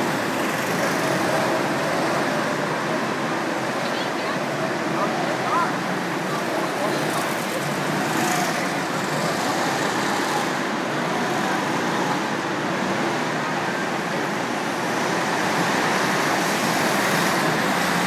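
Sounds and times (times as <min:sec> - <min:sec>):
kart motors and tyres on ice: 0:00.0 - 0:18.0.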